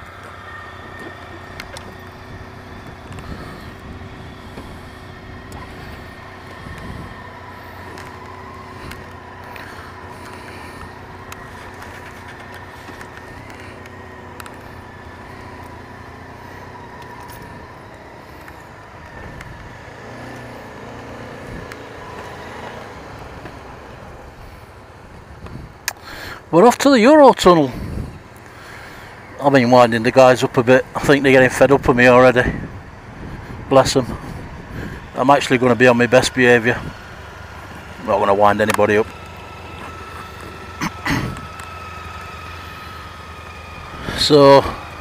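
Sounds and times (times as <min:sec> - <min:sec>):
motorcycle engines idling: 0:00.0 - 0:45.0.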